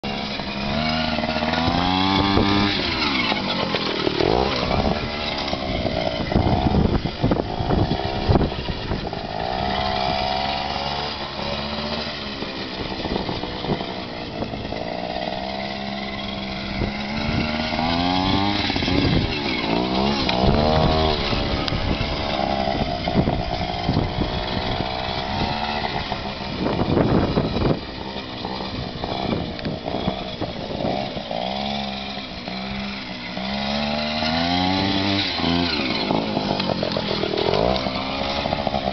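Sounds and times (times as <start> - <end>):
two-stroke motorbike revving: 0.0 - 38.9.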